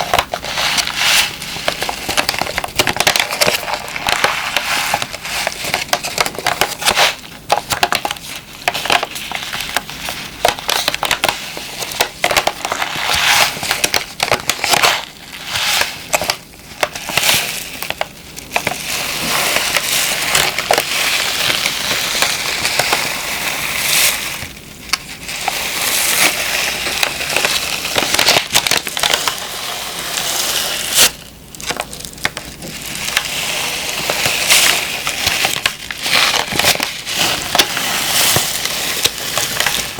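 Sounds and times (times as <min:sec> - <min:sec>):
plastic pack crinkling: 0:00.0 - 0:39.9.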